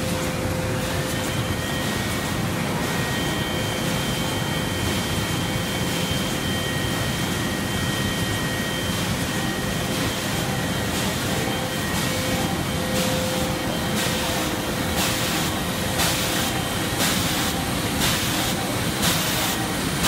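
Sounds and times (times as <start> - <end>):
high whine: 0.0 - 20.0
machine running: 0.0 - 20.0.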